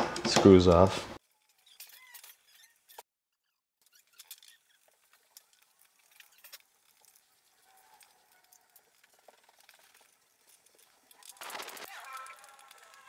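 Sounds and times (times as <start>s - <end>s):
metal terminals clicking and scraping: 0.2s - 3.0s, 3.8s - 13.0s.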